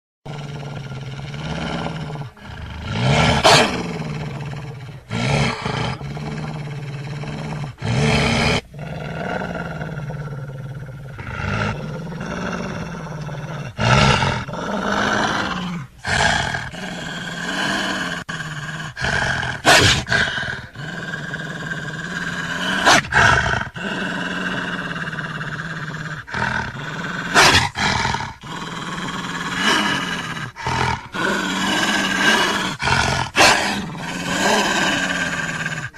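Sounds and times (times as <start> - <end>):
bear growling and roaring: 0.3 - 35.9.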